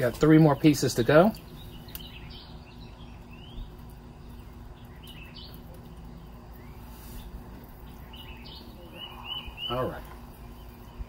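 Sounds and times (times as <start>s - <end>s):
birds chirping: 0.0s - 11.0s
low background hum: 0.0s - 11.0s.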